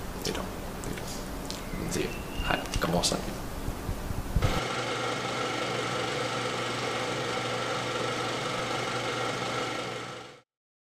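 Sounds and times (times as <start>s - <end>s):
steady mechanical hum: 0.0s - 10.4s.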